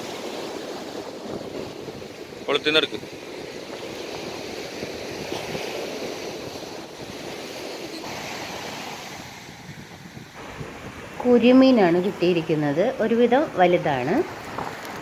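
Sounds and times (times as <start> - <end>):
sea surf breaking on beach: 0.0 - 15.0.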